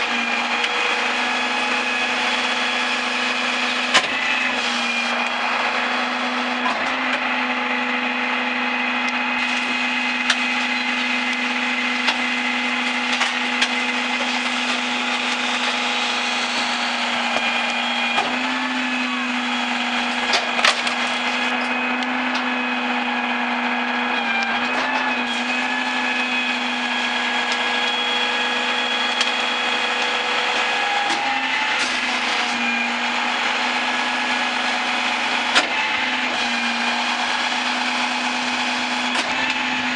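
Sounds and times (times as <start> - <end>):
garbage truck engine and hydraulics whine: 0.0 - 39.9.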